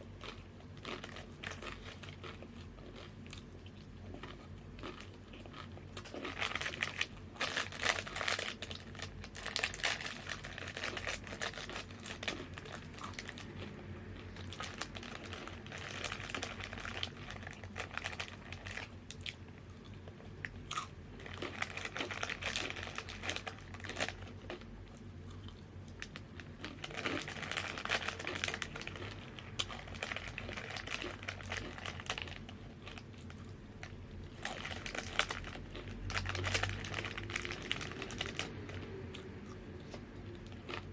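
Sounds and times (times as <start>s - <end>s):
crunching snack chips: 0.1s - 40.9s.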